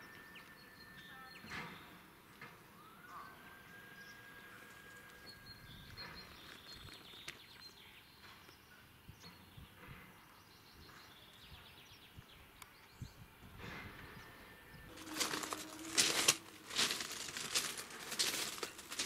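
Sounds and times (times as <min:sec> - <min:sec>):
faint outdoor ambience: 0:00.0 - 0:19.0
small birds chirping: 0:00.0 - 0:19.0.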